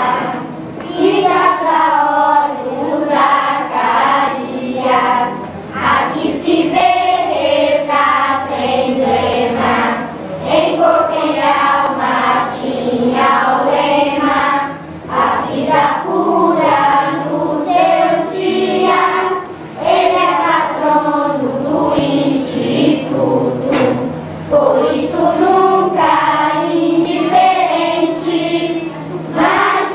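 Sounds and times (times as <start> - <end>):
choir with children singing: 0.0 - 29.9.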